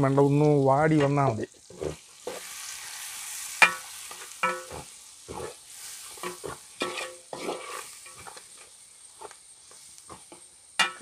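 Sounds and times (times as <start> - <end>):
onions sizzling in oil: 0.0 - 11.0
metal spoon scraping a pan: 1.0 - 11.0.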